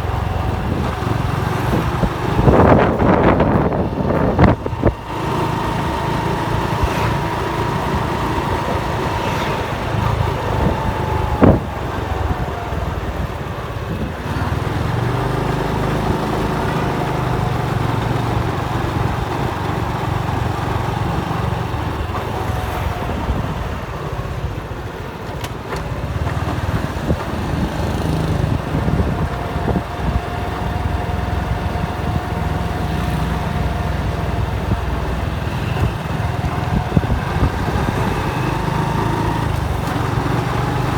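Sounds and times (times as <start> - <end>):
motorcycle engine running: 0.0 - 25.2, 25.8 - 40.9.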